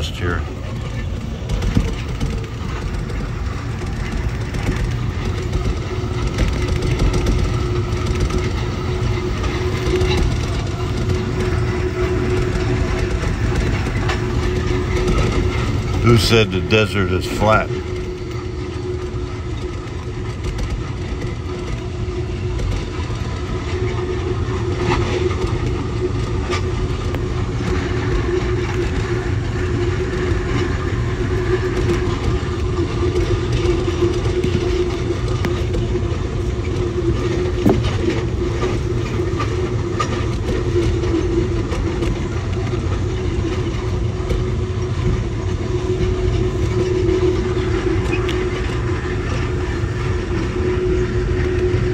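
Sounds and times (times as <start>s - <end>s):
steady hum: 0.0s - 51.9s
train rumbling on rails: 0.0s - 51.9s.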